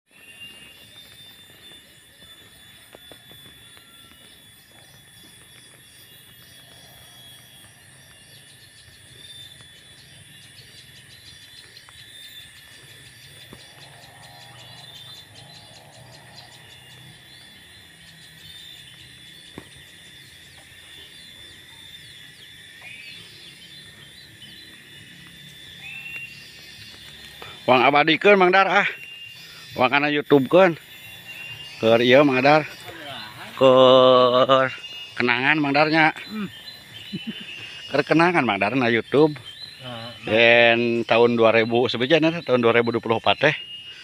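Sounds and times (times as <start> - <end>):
insects chirring: 0.1 - 44.0.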